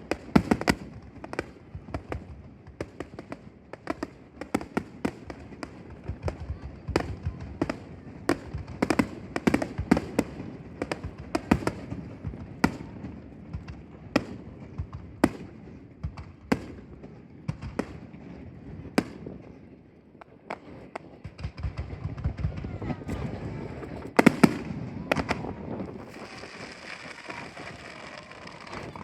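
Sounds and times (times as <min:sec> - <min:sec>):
fireworks cracking and banging: 0:00.0 - 0:29.0.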